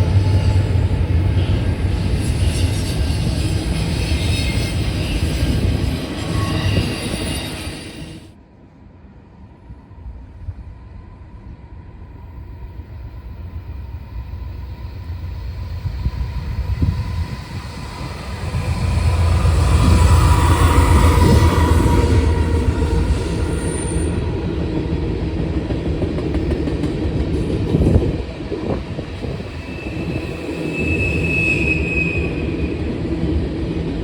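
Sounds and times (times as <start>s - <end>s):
freight train rumble: 0.0s - 34.0s.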